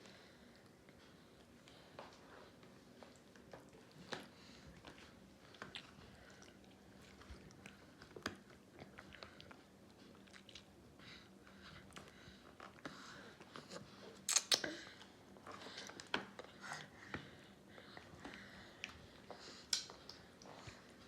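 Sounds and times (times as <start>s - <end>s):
babies chewing wet smacks: 0.5s - 21.0s.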